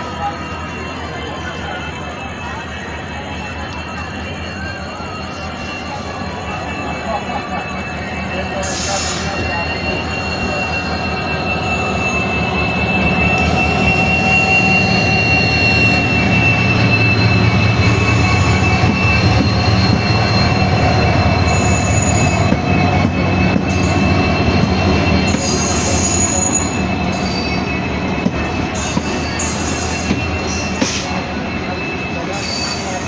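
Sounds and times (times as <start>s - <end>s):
train rumbling on track: 0.0s - 33.0s
wheel squeal: 0.0s - 33.0s.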